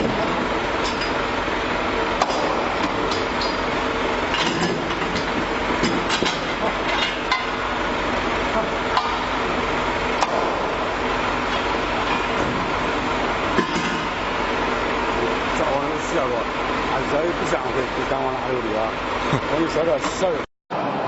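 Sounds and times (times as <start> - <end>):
steady mechanical roar: 0.0 - 21.0.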